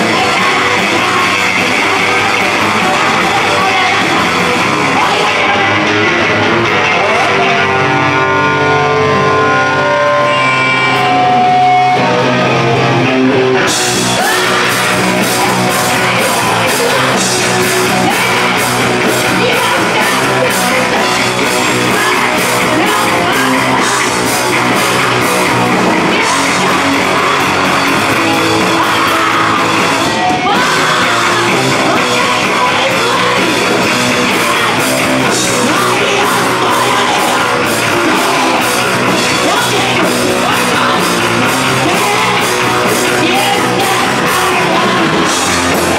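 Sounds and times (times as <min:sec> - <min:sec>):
woman singing and yelling: 0:00.0 - 0:06.1, 0:14.0 - 0:45.9
live rock band playing: 0:00.0 - 0:45.9.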